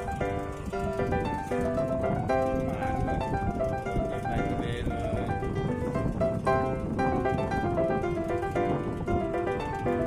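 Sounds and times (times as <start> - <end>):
low steady rumble: 0.0 - 10.0
piano melody: 0.0 - 10.0.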